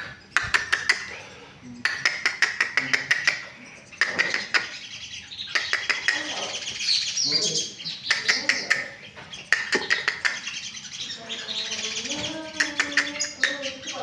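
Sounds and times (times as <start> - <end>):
jay calling with clicking notes: 0.0 - 1.1, 1.8 - 14.0.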